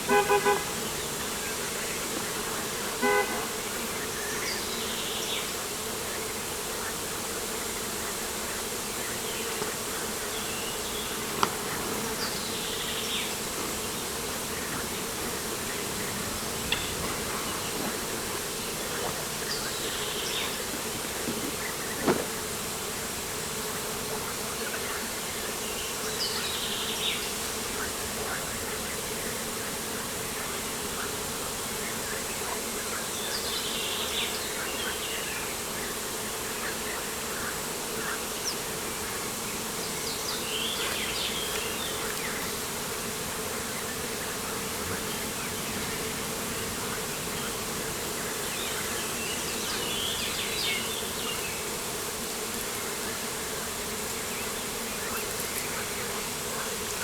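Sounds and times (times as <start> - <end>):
birdsong: 0.0 - 7.0, 7.6 - 57.0
insects buzzing: 0.0 - 57.0
outdoor ambience hiss: 0.0 - 57.0.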